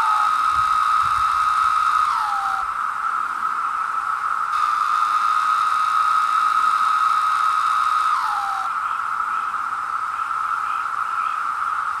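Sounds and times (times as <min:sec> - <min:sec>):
cicada chorus drone: 0:00.0 - 0:12.0
nearby cicada call: 0:00.0 - 0:12.0.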